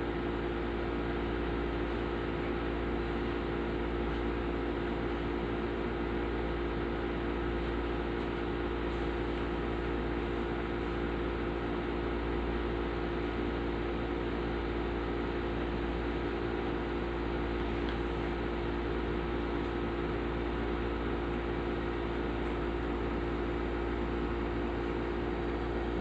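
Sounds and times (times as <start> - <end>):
electric fan running: 0.0 - 26.0.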